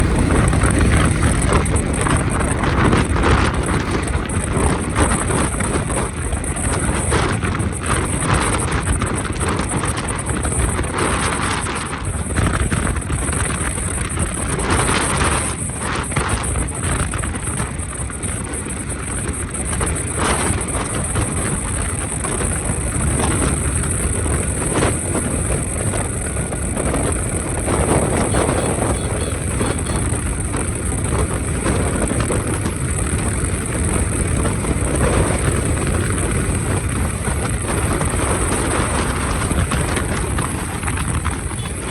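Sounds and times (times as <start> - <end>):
road and engine noise: 0.0 - 41.9
wind buffeting microphone: 0.0 - 41.9.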